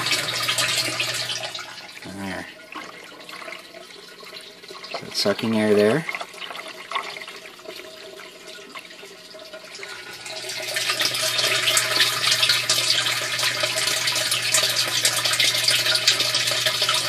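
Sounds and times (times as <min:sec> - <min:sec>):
water pouring from a pipe: 0:00.0 - 0:17.0.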